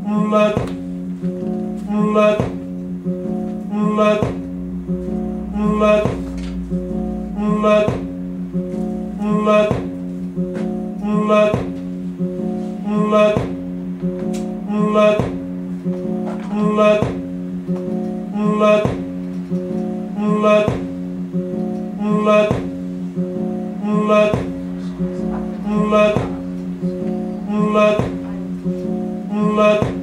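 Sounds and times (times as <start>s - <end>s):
plucked guitar music from vinyl: 0.6s - 30.0s.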